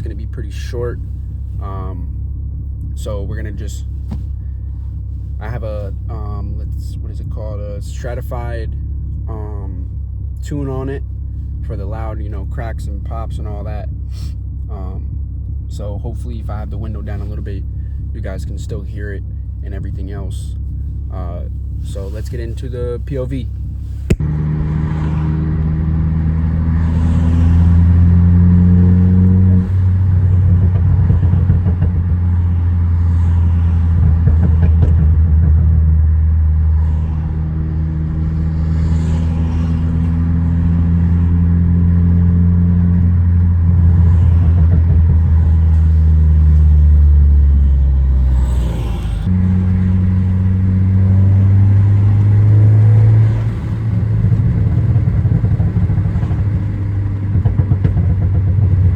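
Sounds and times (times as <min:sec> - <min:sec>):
car engine while driving: 0:00.0 - 0:58.9.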